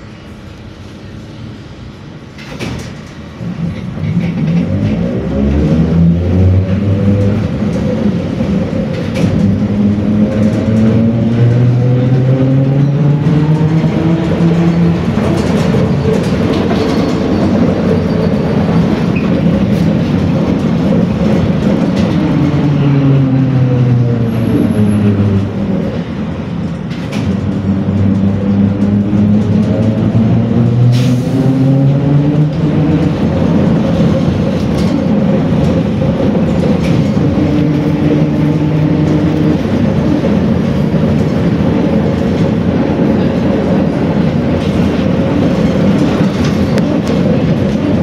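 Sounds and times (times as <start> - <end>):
road rumble: 0.0 - 48.0.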